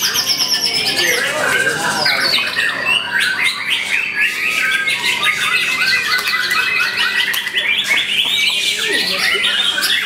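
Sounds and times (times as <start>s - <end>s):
bird singing: 0.0s - 10.0s.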